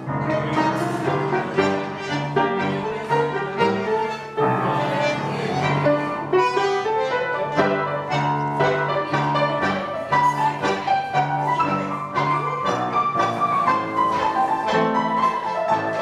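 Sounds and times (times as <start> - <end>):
bowed strings: 0.0 - 16.0
piano: 0.0 - 16.0
tango music: 0.0 - 16.0.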